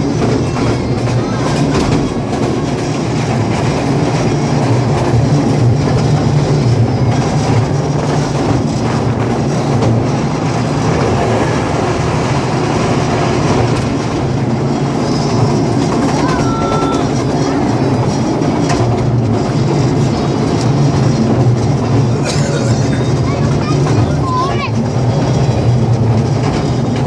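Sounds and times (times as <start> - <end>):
train wheels and carriage rattling: 0.0 - 27.0.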